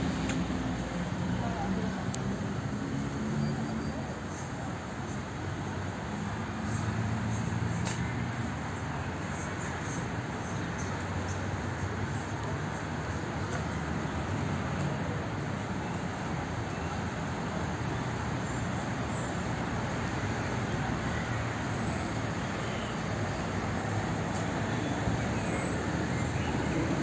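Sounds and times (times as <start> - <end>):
city street traffic hum: 0.0 - 27.0.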